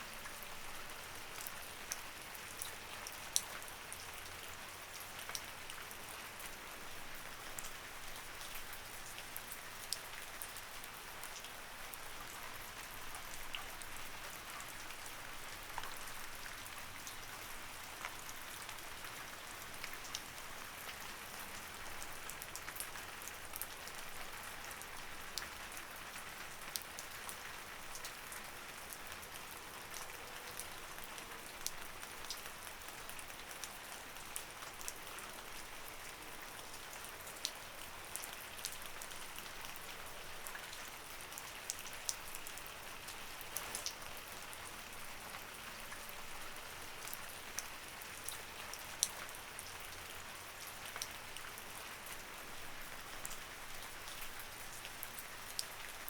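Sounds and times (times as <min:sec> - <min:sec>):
light rain hiss: 0:00.0 - 0:56.0
raindrops ticking on a surface: 0:00.1 - 0:56.0.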